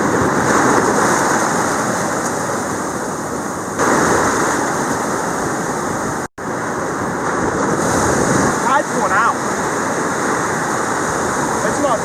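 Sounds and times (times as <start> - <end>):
surf washing up beach: 0.0 - 12.0
wave breaking: 0.0 - 12.0.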